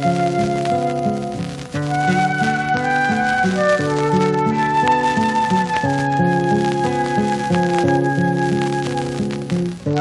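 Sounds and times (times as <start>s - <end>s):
instrumental folk music on vinyl: 0.0s - 10.0s.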